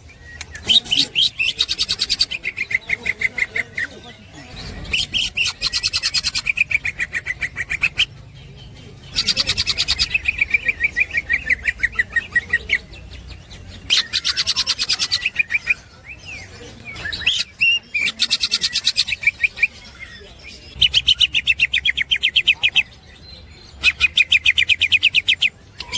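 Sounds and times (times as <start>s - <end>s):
bird chattering song: 0.0s - 25.9s.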